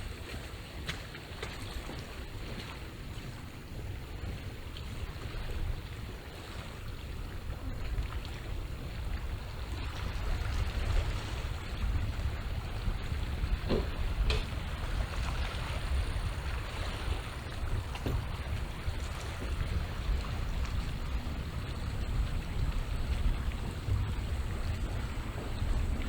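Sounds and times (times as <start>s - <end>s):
small waves washing on shore: 0.0s - 26.0s
wind rumbling on microphone: 0.0s - 26.0s.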